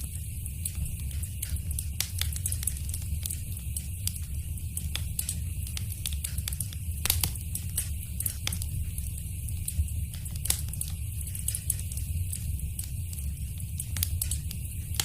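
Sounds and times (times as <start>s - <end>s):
fire popping and snapping: 0.0s - 15.0s
wood fire crackling: 0.0s - 15.0s.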